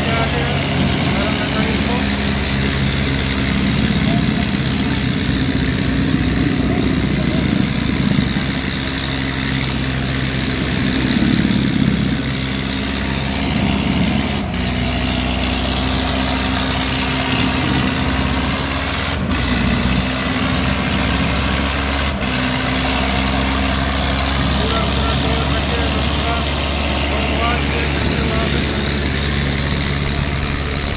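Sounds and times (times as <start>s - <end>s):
tractor diesel engines under load: 0.0s - 30.9s.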